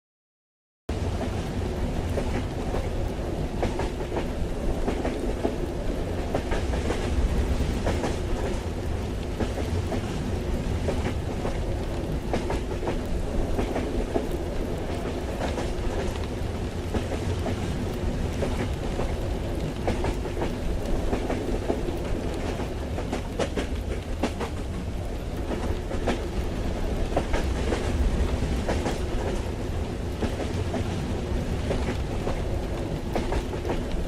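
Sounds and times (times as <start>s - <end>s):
train low rumble: 0.9s - 34.0s
wheels clacking on track: 0.9s - 34.0s.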